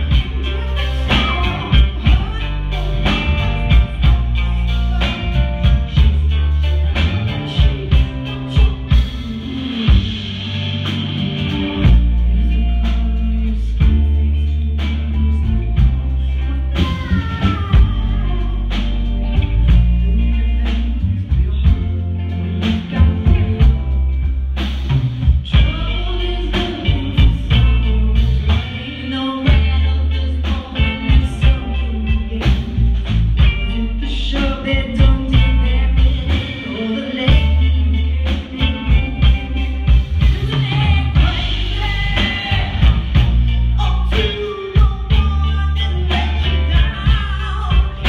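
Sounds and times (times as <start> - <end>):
woman singing: 0.0 - 10.5, 11.6 - 24.1, 25.4 - 48.0
bass guitar: 0.0 - 48.0
drum kit beat: 0.0 - 48.0
electric guitar: 0.0 - 48.0.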